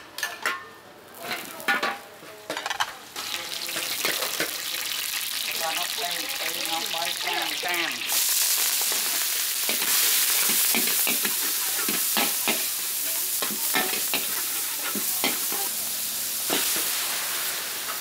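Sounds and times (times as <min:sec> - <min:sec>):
food sizzling in a wok: 0:01.1 - 0:18.0.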